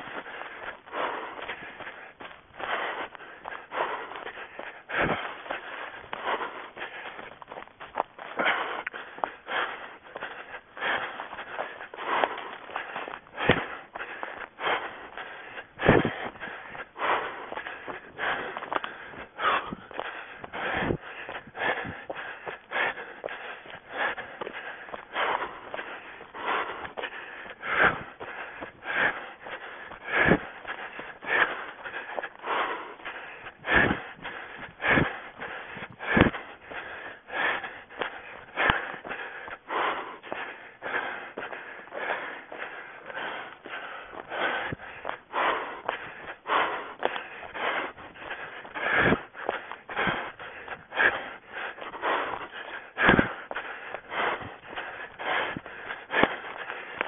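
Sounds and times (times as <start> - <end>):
footfalls: 0.0 - 36.8, 37.4 - 57.0
runner breathing: 0.0 - 57.0.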